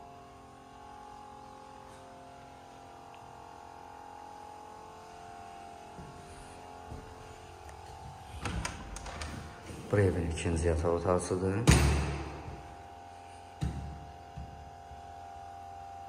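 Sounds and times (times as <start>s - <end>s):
background music of sustained chords: 0.0s - 16.0s.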